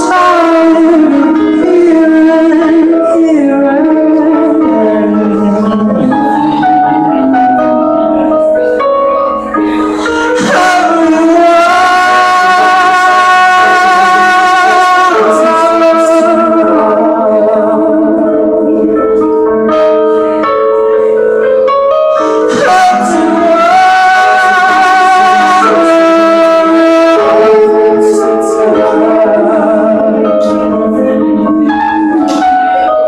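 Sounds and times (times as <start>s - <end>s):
electric keyboard chords: 0.0s - 33.0s
man singing with vibrato: 0.0s - 33.0s.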